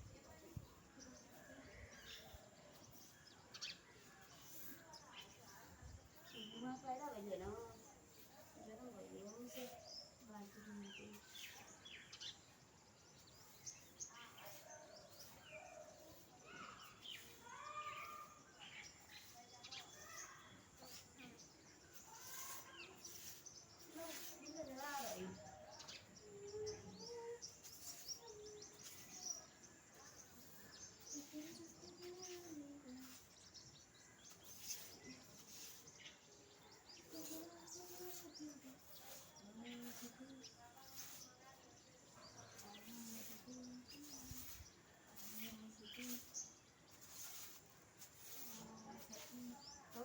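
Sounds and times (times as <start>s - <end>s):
birds calling and chirping: 0.0s - 50.0s.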